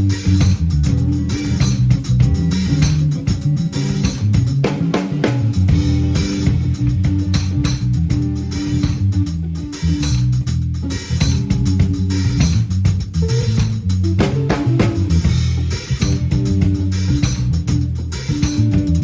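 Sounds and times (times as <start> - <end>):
bass guitar line: 0.0 - 19.0
drum kit and cymbals: 0.0 - 19.0
electric guitar: 0.0 - 19.0.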